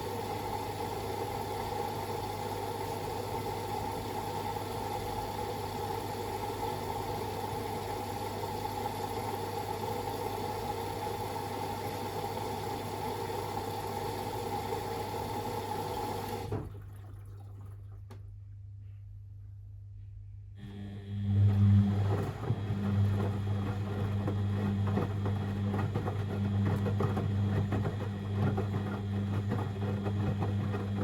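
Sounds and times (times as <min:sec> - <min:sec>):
washing machine running: 0:00.0 - 0:18.3, 0:20.6 - 0:31.0.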